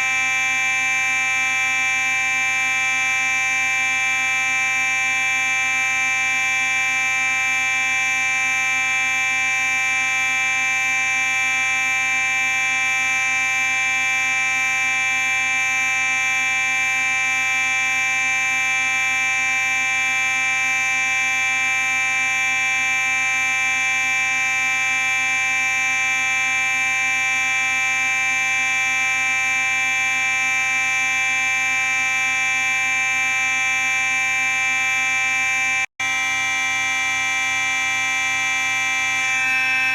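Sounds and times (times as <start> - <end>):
fire alarm horn: 0.0 - 39.9.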